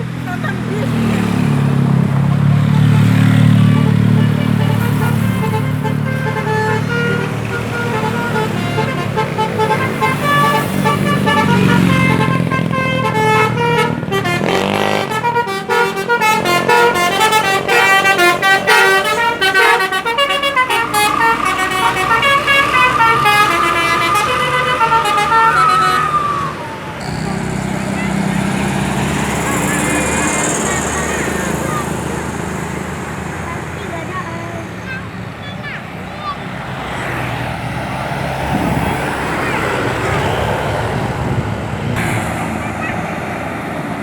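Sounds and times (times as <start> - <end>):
bus engine: 0.0 - 44.0
multi-tone bus horn tune: 0.4 - 43.9.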